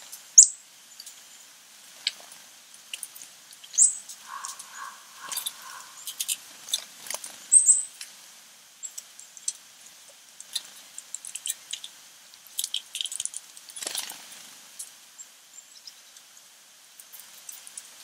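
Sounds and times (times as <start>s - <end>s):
small birds chirping: 0.4s - 8.1s, 8.8s - 9.6s, 10.4s - 18.0s.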